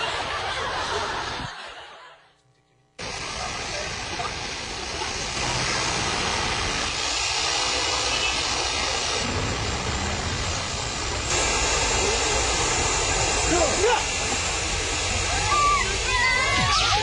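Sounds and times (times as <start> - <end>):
snow machine blowing: 3.0 - 17.0.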